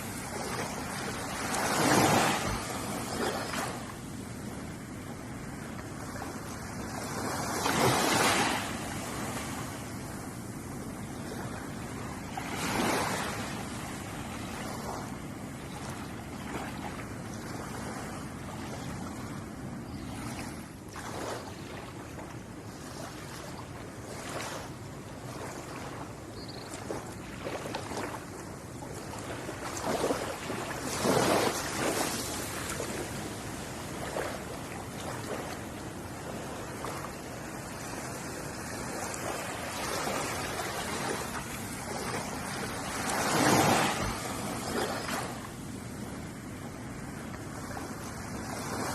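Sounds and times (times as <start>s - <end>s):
waves breaking: 0.0s - 19.4s, 20.0s - 48.9s
ocean waves washing onto shore: 0.0s - 48.9s.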